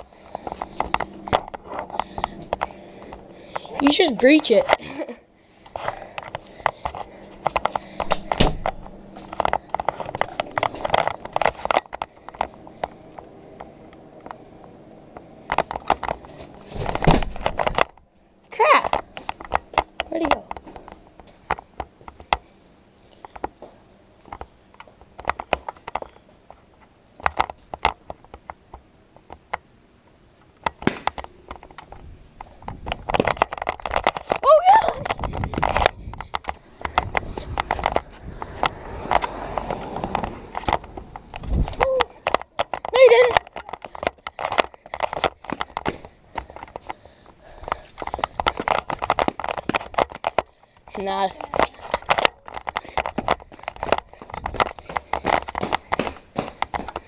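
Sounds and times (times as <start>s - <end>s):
crunching footsteps: 0.0s - 26.8s, 30.8s - 57.0s.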